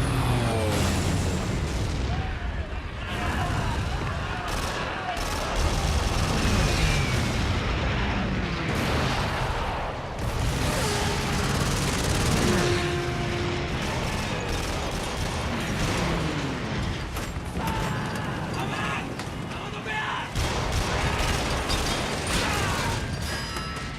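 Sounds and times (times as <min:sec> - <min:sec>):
booming explosions: 0:00.0 - 0:23.3
constant rumble: 0:00.0 - 0:23.9
gunfire: 0:00.6 - 0:23.6.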